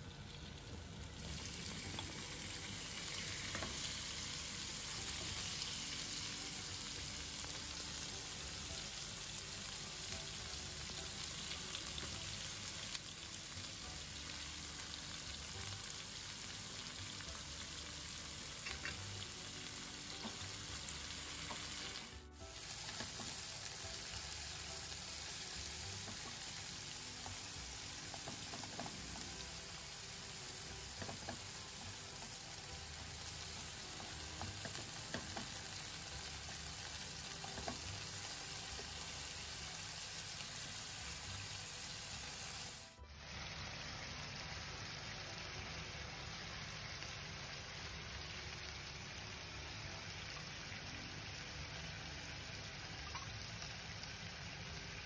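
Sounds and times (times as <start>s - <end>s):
beef sizzling in a frying pan: 0.0s - 55.0s.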